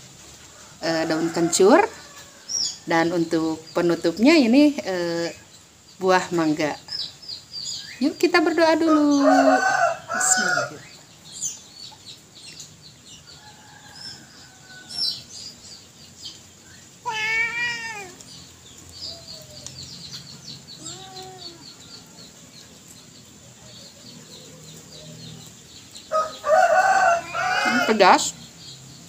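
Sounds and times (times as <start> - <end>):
birds chirping: 0.5 - 29.0.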